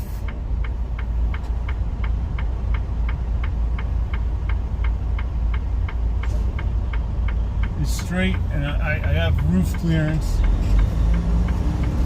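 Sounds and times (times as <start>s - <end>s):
diesel engine rumble: 0.0s - 12.0s
turn signal clicking: 0.0s - 12.0s.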